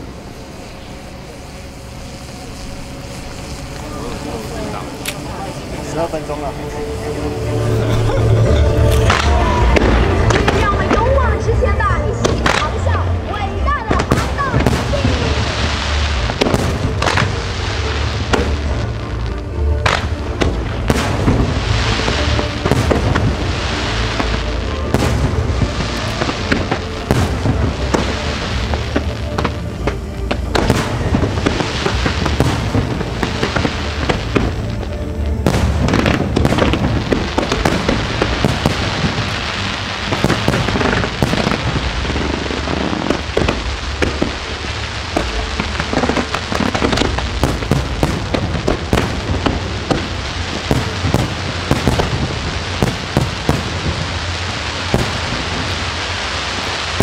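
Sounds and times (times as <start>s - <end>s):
continuous rumble: 0.0s - 57.0s
fireworks crackling and bursting: 0.0s - 57.0s.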